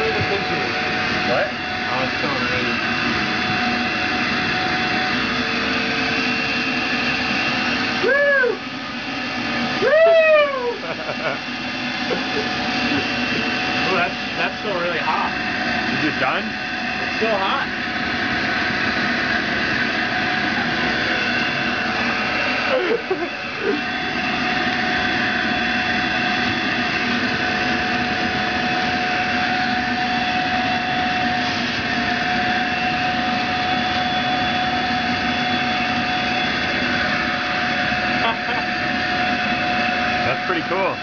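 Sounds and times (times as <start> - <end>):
vacuum cleaner whining: 0.0 - 41.0.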